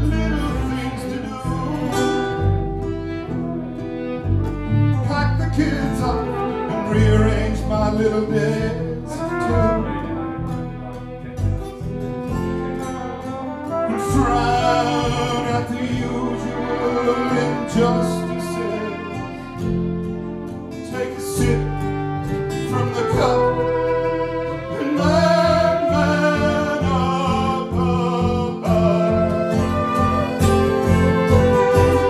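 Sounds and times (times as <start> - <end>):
flugelhorn melody: 0.0 - 32.0
plucked double bass: 0.0 - 32.0
strummed acoustic guitar: 0.0 - 32.0
violin: 0.0 - 32.0.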